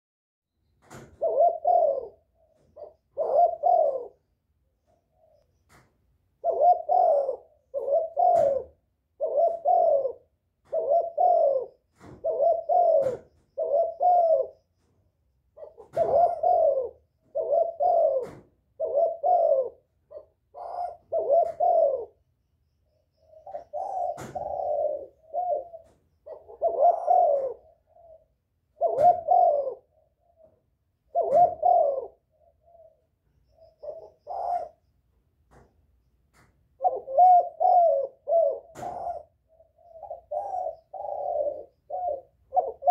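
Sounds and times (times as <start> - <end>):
dove cooing: 0.8 - 22.4, 23.1 - 35.7, 36.3 - 42.9.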